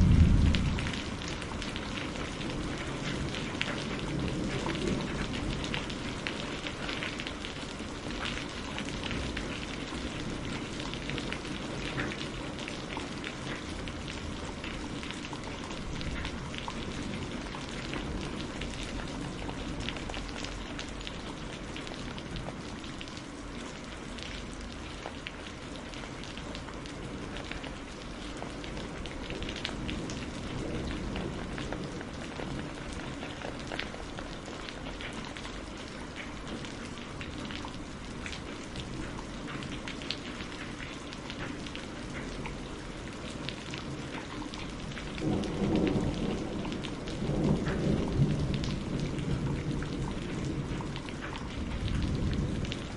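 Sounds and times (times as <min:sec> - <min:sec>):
rain pattering: 0:00.0 - 0:52.9
raindrops ticking: 0:00.0 - 0:52.9.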